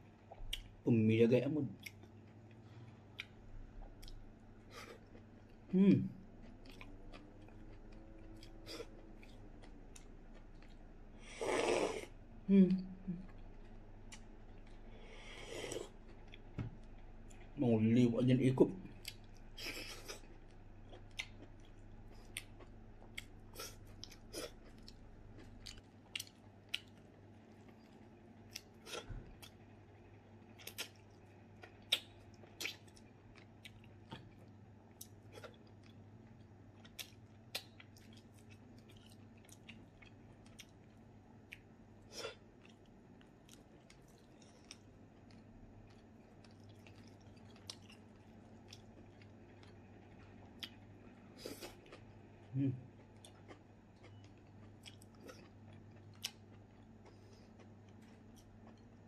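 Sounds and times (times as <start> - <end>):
man chewing food: 0.0 - 0.8, 1.8 - 12.2, 13.0 - 17.6, 18.8 - 59.0.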